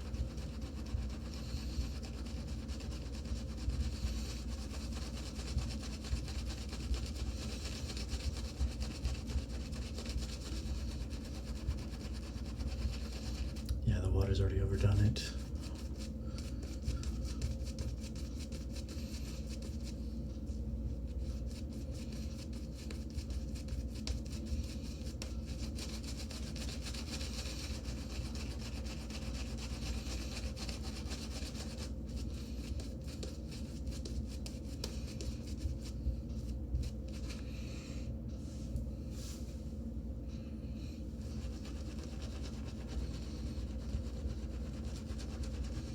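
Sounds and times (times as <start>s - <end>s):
shaving brush rubbing soap: 0.0s - 37.6s, 41.2s - 45.9s.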